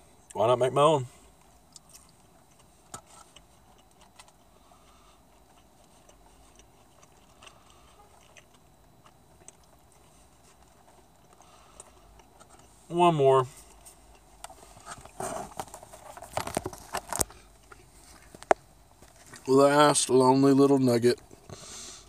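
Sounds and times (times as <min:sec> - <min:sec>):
faint chewing: 0:01.3 - 0:19.6.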